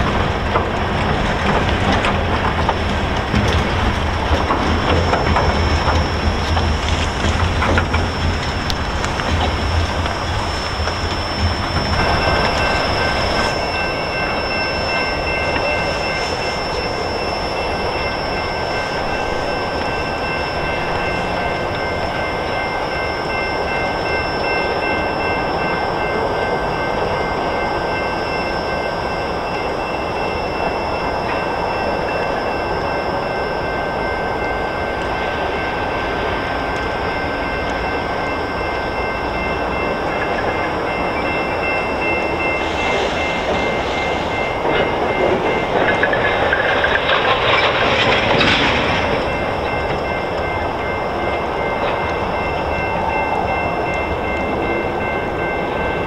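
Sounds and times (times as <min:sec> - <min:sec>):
freight train rumbling: 0:00.0 - 0:56.0
high wheel squeals: 0:00.0 - 0:56.0.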